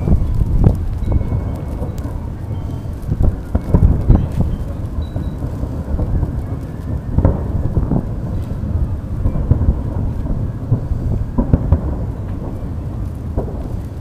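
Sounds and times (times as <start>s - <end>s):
fireworks booming: 0.0s - 14.0s
sharp firework bangs: 0.0s - 14.0s.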